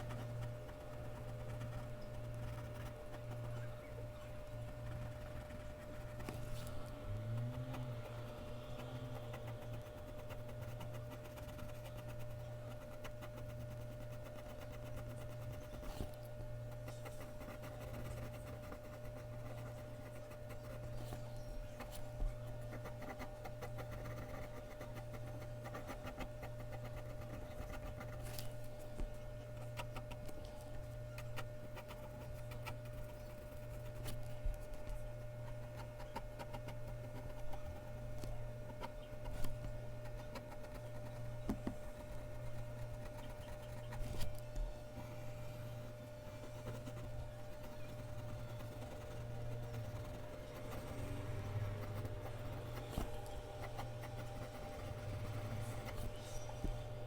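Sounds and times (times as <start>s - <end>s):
pencil scratching on paper: 0.0s - 28.9s, 29.5s - 57.0s
steady electrical hum: 0.0s - 57.0s.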